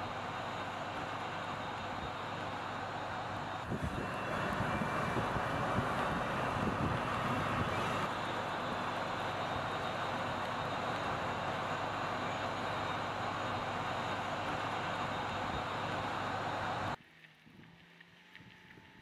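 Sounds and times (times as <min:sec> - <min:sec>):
vehicle road noise: 0:00.0 - 0:19.0.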